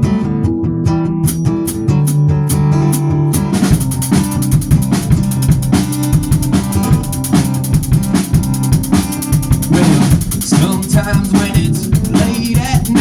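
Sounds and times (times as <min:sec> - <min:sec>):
acoustic guitar notes: 0:00.0 - 0:13.0
drum kit beat: 0:01.1 - 0:13.0.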